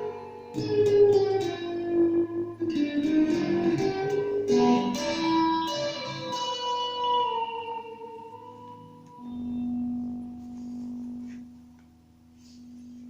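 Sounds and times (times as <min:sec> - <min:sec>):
electric guitar notes: 0:00.0 - 0:13.0.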